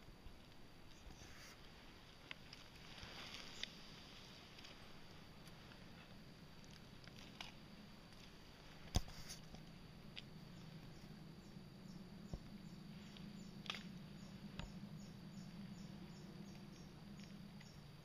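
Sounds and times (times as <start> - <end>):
low steady hum: 0.0 - 18.0
high insect chirp: 3.0 - 18.0.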